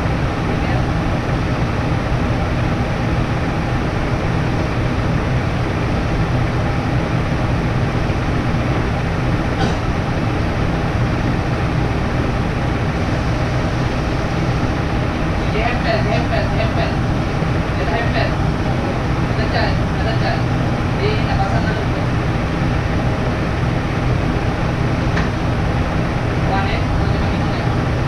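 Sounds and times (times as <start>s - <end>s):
machine drone: 0.0s - 28.0s.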